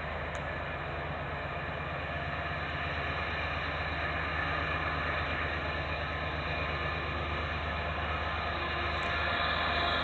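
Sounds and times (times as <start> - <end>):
diesel locomotive engine drone: 0.0 - 10.0.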